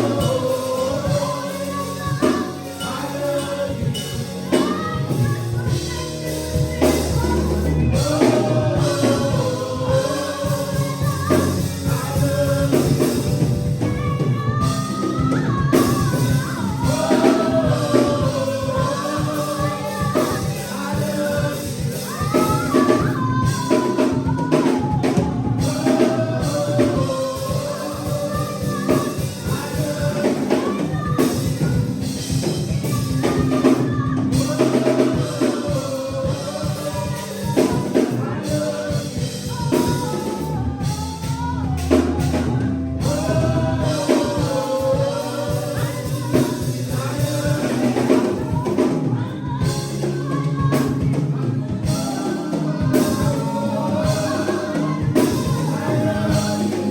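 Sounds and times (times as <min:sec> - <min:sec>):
drum kit beat: 0:00.0 - 0:56.9
gospel singing: 0:00.0 - 0:56.9.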